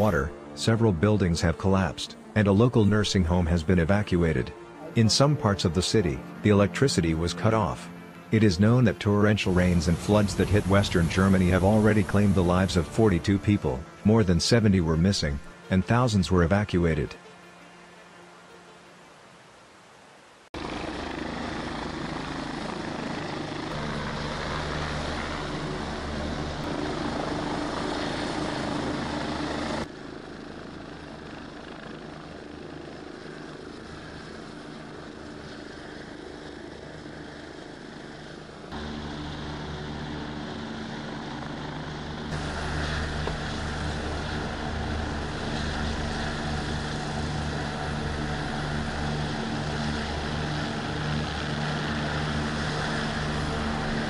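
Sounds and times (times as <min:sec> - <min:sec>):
helicopter hovering: 0:00.0 - 0:19.0, 0:20.6 - 0:54.0.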